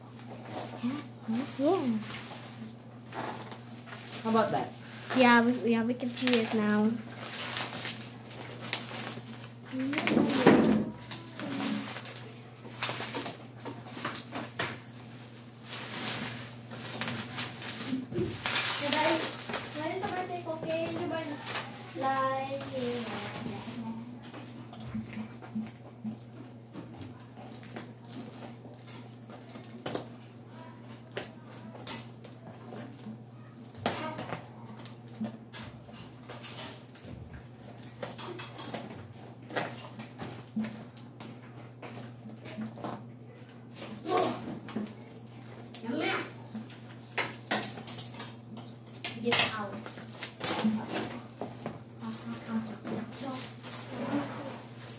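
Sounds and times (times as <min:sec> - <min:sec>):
bubble wrap rustling and crinkling: 0:00.0 - 0:54.9.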